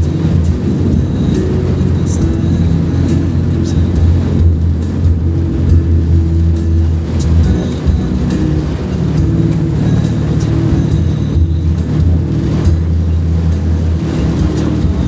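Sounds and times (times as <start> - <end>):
engine and road drone: 0.0 - 15.0.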